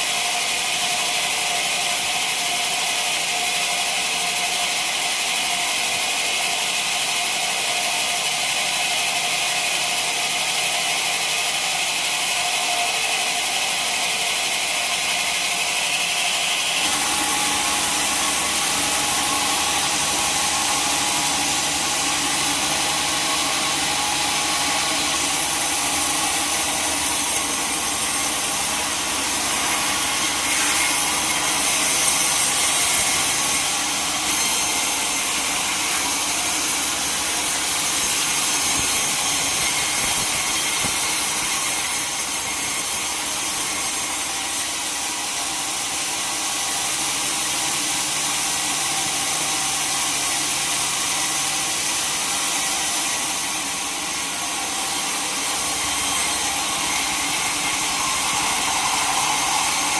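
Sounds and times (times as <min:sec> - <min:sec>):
sawmill saw cutting timber: 0:00.0 - 0:59.9.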